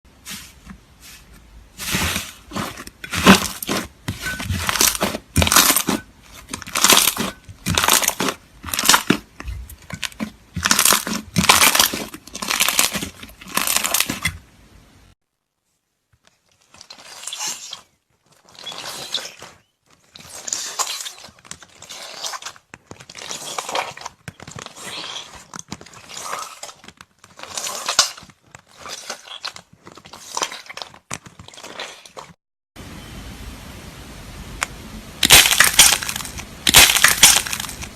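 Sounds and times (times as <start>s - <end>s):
slime squishing and crackling: 1.7s - 14.4s, 16.2s - 32.4s, 35.2s - 37.9s.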